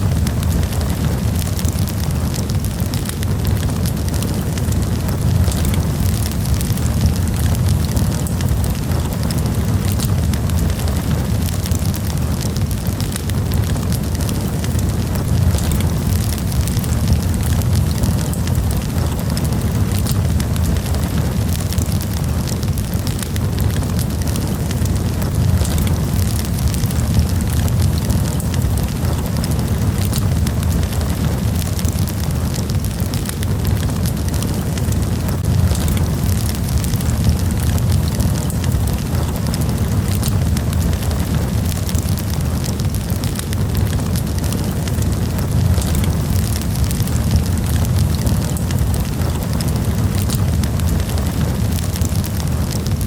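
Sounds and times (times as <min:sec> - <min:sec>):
low fire rumble: 0:00.0 - 0:53.0
wood crackling with pops: 0:00.0 - 0:53.0.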